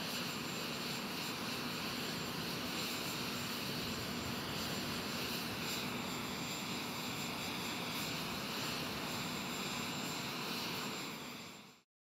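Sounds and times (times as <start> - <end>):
jet engine with high whine: 0.0 - 11.9.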